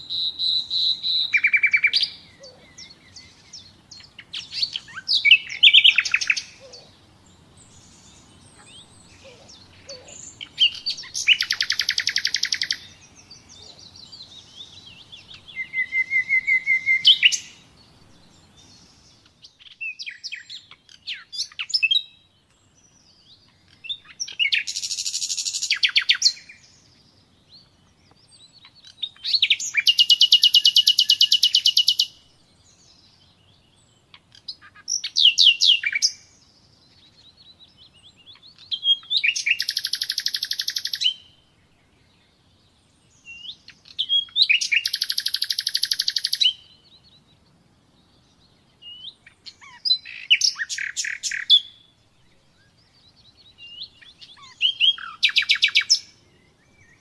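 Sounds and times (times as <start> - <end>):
nightingale singing: 0.0 - 57.0.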